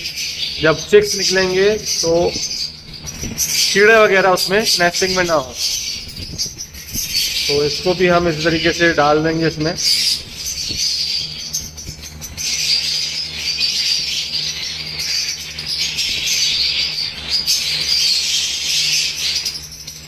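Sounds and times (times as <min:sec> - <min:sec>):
parrots chattering: 0:00.0 - 0:20.0.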